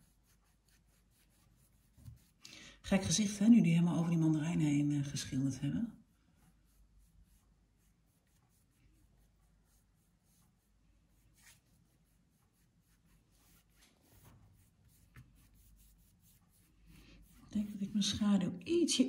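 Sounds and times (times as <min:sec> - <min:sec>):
paintbrush strokes on canvas: 0:00.0 - 0:18.8.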